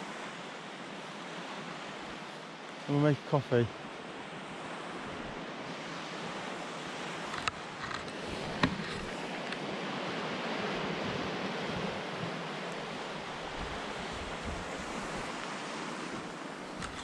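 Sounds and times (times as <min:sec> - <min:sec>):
sea surf breaking: 0:00.0 - 0:17.0.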